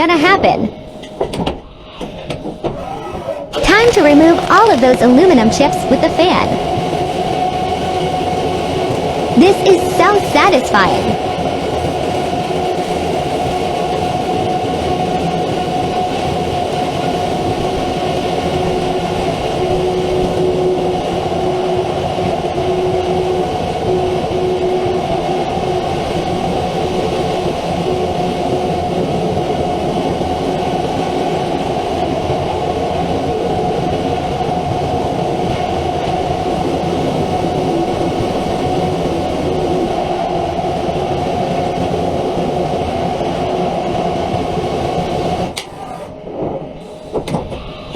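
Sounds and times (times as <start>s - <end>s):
held whine: 0.8s - 47.9s.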